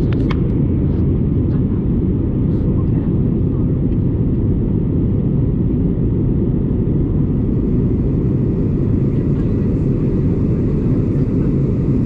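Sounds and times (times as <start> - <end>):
airliner cabin rumble in flight: 0.0 - 12.0.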